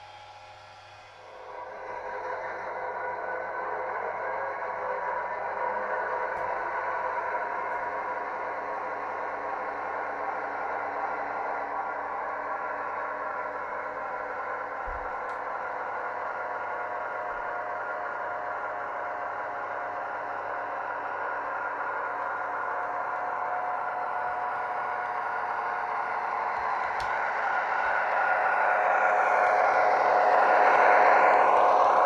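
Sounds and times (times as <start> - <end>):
model train whirring: 0.0 - 32.0.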